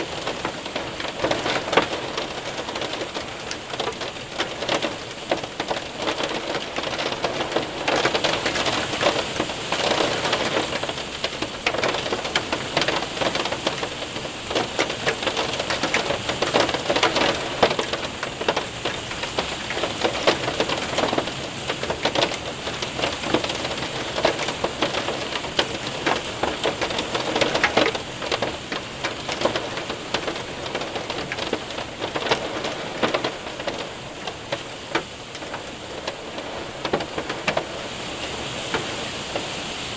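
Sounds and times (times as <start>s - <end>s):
hailstones clicking: 0.0s - 39.5s
rain on window and roof: 0.0s - 39.9s.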